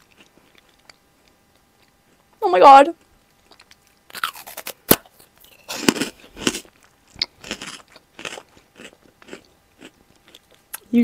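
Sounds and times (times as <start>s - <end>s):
crunching and chewing: 0.0s - 2.4s, 3.0s - 10.9s.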